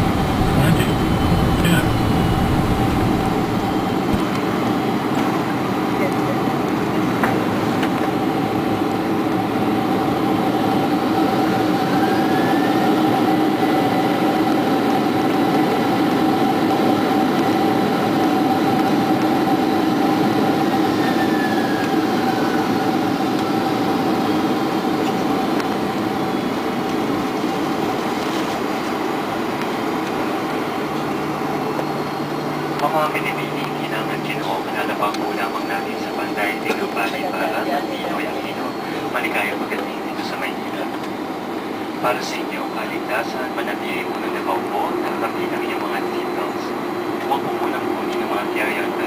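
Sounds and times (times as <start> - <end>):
constant hum: 0.0 - 12.1, 21.8 - 49.0
faint whine: 0.0 - 49.0
jet engines and wheels rumbling: 0.0 - 49.0.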